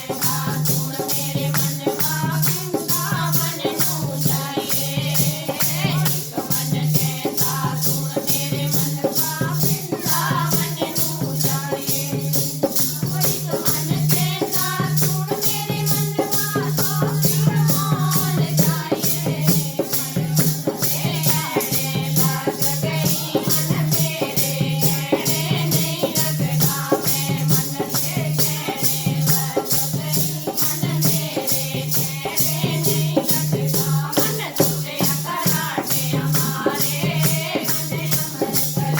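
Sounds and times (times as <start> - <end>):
rattling hand percussion: 0.0 - 38.9.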